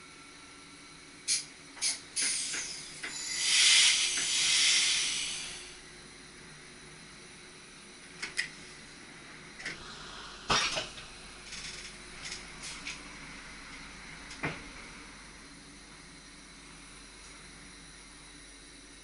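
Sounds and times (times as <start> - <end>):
electric train running hum: 0.0 - 19.0.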